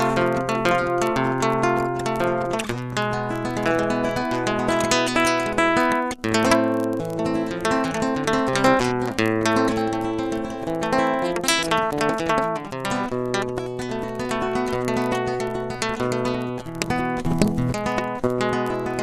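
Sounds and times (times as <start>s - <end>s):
classical guitar playing: 0.0s - 19.0s.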